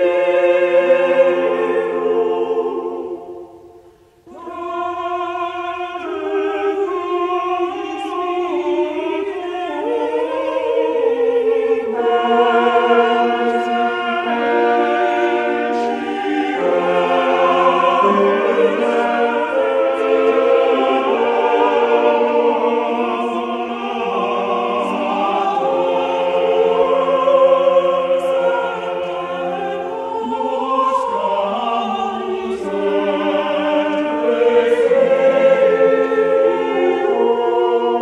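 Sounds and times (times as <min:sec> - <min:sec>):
choir singing sustained chords: 0:00.0 - 0:38.0.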